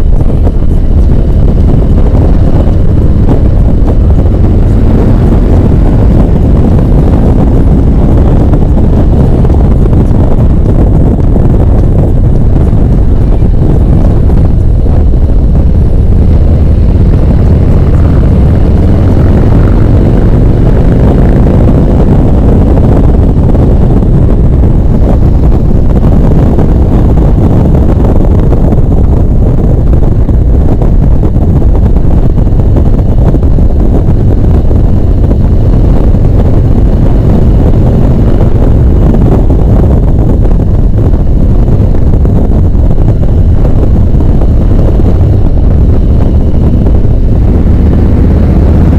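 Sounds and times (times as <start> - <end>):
motorcycle engine at road speed: 0.0 - 48.9
wind buffeting microphone: 0.0 - 48.9.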